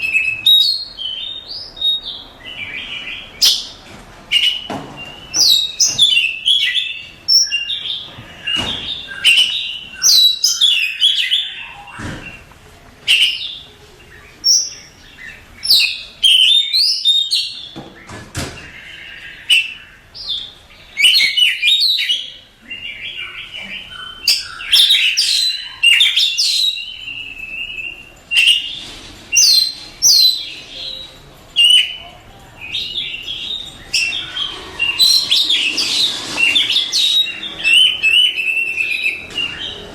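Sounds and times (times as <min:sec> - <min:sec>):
bird singing whistled song: 0:00.0 - 0:12.0, 0:14.4 - 0:17.8, 0:18.9 - 0:32.0, 0:32.7 - 0:39.9.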